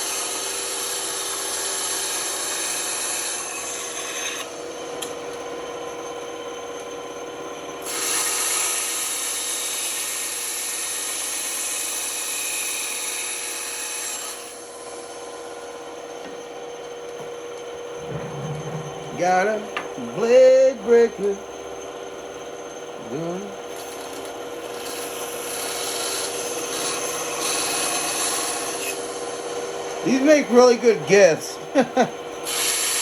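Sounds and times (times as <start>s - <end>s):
band saw cutting wood: 0.0s - 5.7s, 7.8s - 15.8s, 18.0s - 21.6s, 23.0s - 33.0s.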